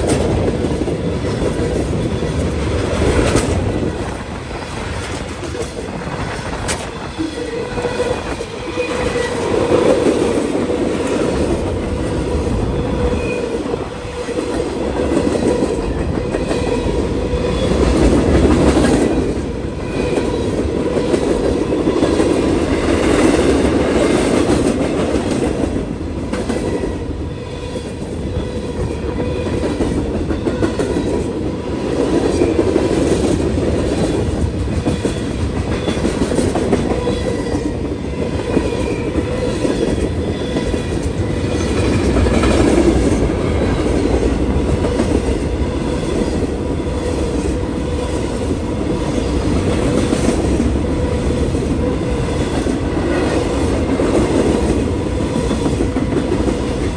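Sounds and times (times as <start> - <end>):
train wheels clacking over rails: 0.0 - 56.9.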